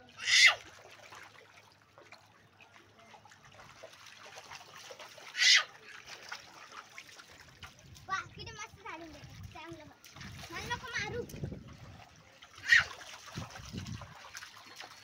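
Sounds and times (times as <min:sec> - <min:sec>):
bare feet splashing in water: 0:00.0 - 0:15.0.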